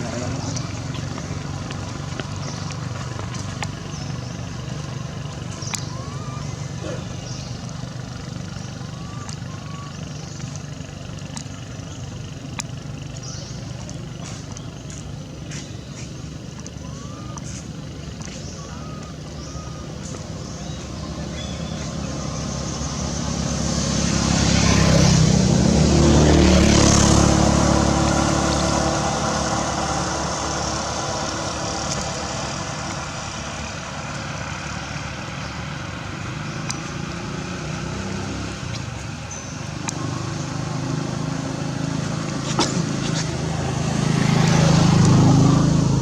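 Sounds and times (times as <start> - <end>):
motor vehicles passing by: 0.0 - 46.0.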